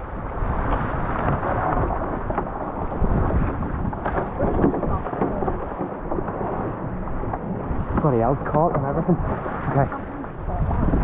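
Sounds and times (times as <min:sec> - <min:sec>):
water splashing against hull: 0:00.0 - 0:11.0
wind buffeting microphone: 0:00.0 - 0:11.0.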